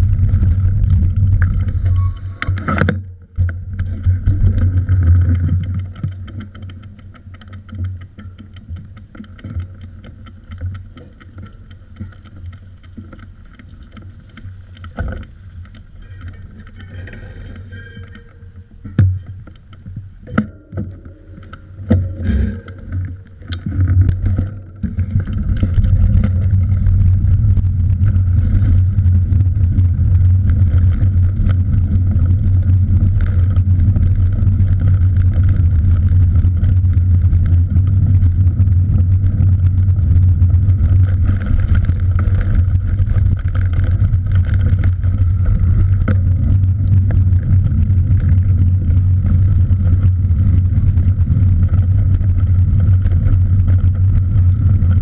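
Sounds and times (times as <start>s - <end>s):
sharp clicks and knocks: 0.0s - 55.0s
wind rumble on microphone: 0.0s - 55.0s.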